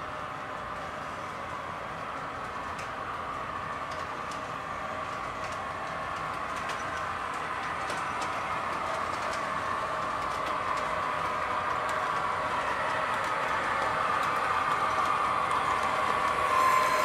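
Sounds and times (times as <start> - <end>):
light clicks of train wheels: 0.0 - 17.0
model train whirring on track: 0.0 - 17.0.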